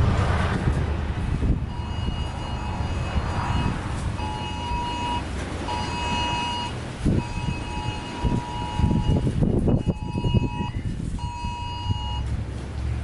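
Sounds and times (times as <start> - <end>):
wind rumble: 0.0 - 13.0
phone alert beeps: 1.7 - 12.3.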